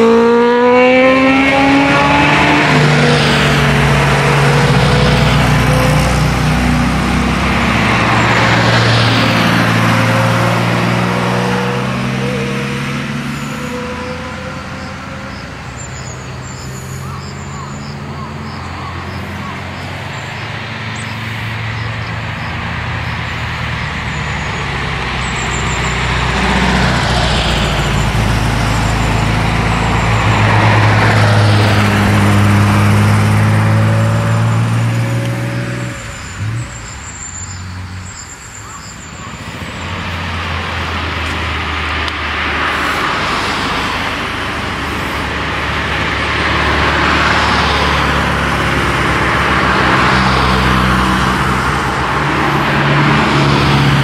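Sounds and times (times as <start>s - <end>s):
sports car engines passing: 0.0s - 54.0s.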